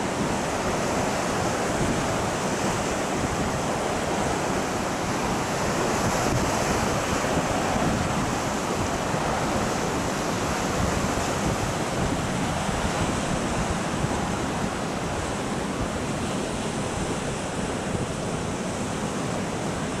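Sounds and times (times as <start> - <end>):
waves breaking: 0.0 - 20.0
wind buffeting microphone: 0.0 - 20.0.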